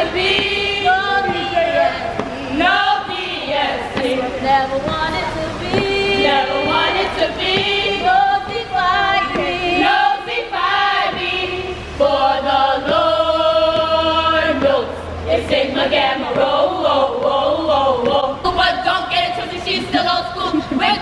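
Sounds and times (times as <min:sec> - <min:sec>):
women chanting in unison: 0:00.0 - 0:21.0.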